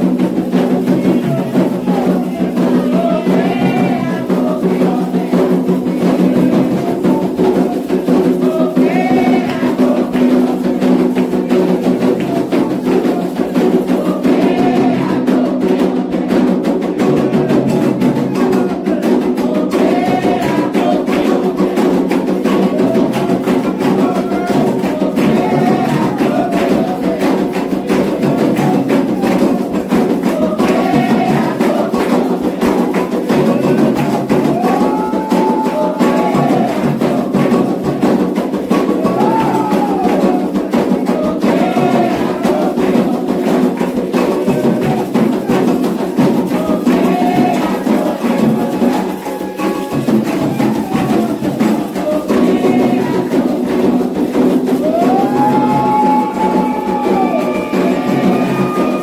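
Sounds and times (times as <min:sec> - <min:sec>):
drumming and percussion: 0:00.0 - 0:59.0
group singing a chant: 0:00.0 - 0:59.0.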